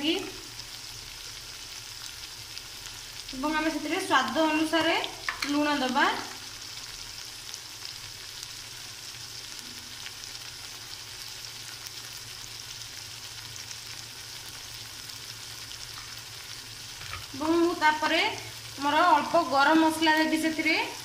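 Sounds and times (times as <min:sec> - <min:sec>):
paste sizzling in oil: 0:00.0 - 0:21.0.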